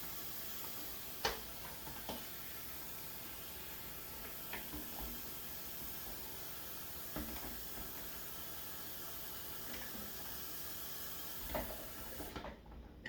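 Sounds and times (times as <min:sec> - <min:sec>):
steady water hiss: 0:00.0 - 0:12.4.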